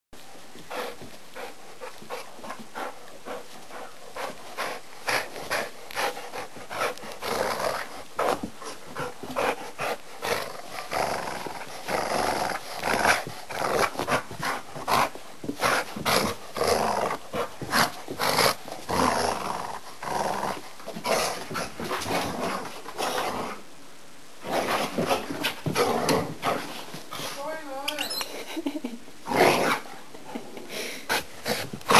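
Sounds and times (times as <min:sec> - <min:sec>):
dog play-growling and grunting: 0:00.7 - 0:23.6, 0:24.4 - 0:27.4, 0:28.4 - 0:31.9.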